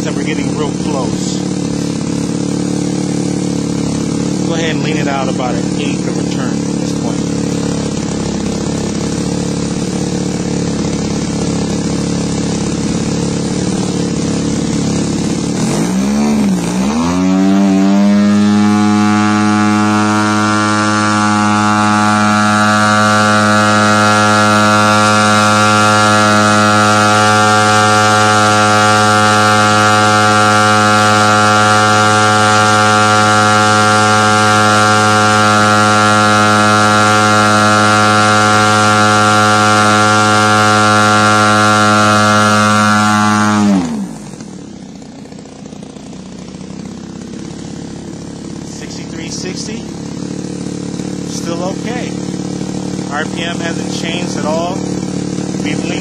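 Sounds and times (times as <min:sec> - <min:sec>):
model airplane engine running: 0:00.0 - 0:56.0.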